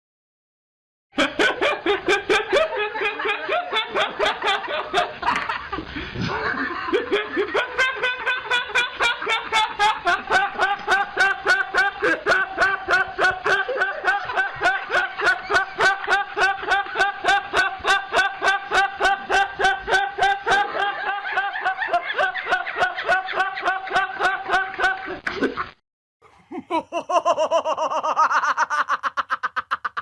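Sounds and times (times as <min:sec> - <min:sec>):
man laughing: 0:01.2 - 0:30.0.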